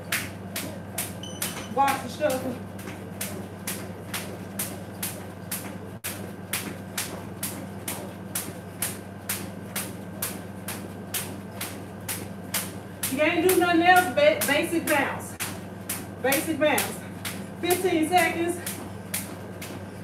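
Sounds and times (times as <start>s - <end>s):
jump rope slapping tile floor: 0.0s - 20.0s.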